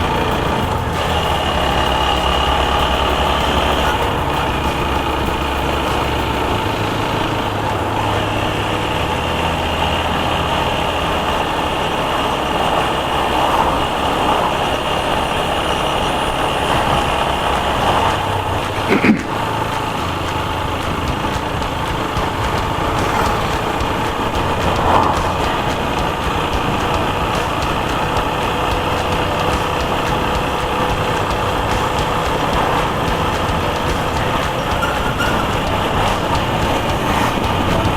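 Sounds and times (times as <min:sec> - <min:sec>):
motorcycle engine running: 0:00.0 - 0:37.9
road and wind noise: 0:00.0 - 0:37.9.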